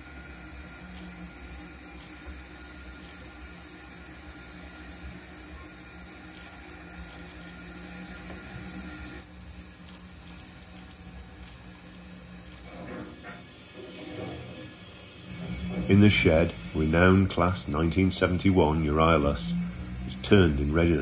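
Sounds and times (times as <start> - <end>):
model locomotive rushing hiss: 0.0 - 21.0.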